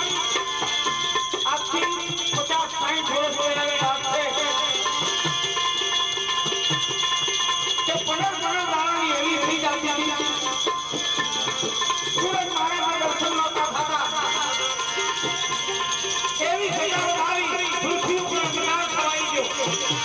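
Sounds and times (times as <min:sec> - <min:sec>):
jingling percussion: 0:00.0 - 0:20.0
steady drum beat: 0:00.0 - 0:20.0.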